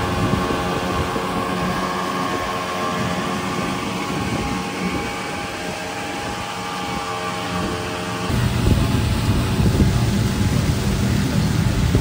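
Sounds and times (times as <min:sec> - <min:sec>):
boat motor humming: 0:00.0 - 0:12.0
rushing water: 0:00.0 - 0:12.0
wind: 0:00.0 - 0:12.0.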